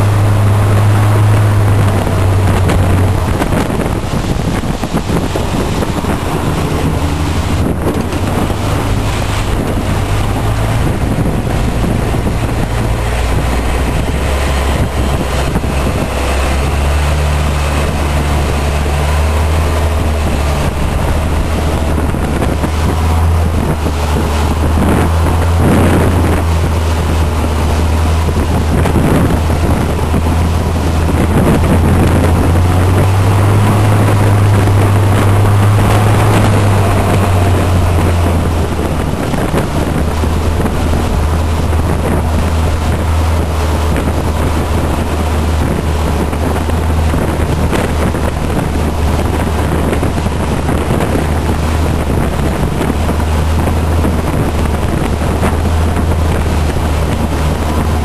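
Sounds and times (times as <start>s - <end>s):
motorboat engine droning: 0.0s - 58.0s
water rushing past hull: 0.0s - 58.0s
wind buffeting microphone: 0.0s - 58.0s.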